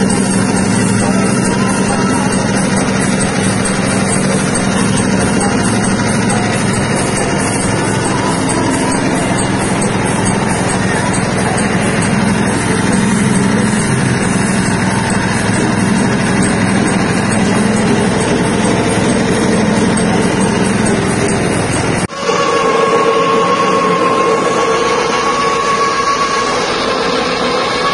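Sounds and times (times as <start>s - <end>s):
dehulling machine running: 0.0s - 27.9s.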